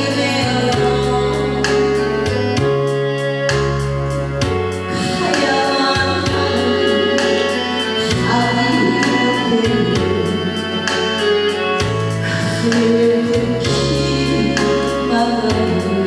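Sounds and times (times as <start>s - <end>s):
person singing over backing track: 0.0s - 16.0s
steady bass line: 0.0s - 16.0s.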